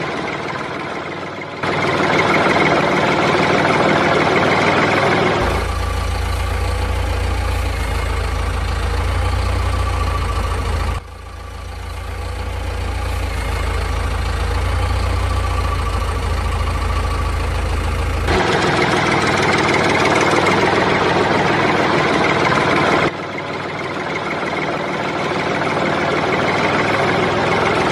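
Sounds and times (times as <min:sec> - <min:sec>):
bright noisy engine sound: 0:00.0 - 0:27.9
engine idling with deep rumble: 0:00.0 - 0:27.9.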